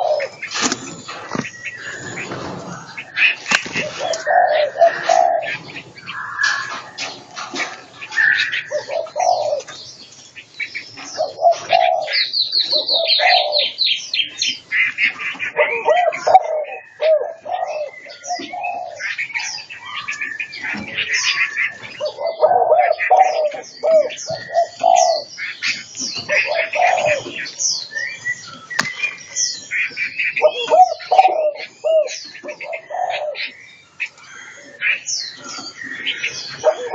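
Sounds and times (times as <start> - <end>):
doves cooing: 0.0 - 36.9
songbirds chirping: 0.0 - 36.9.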